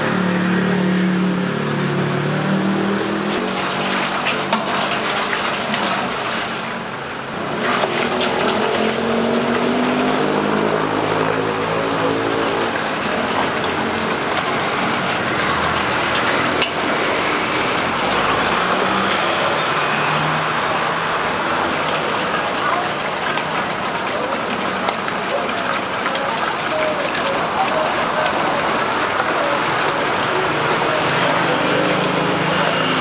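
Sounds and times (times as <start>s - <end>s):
road traffic: 0.0s - 33.0s
water pouring into metal pot: 2.8s - 33.0s.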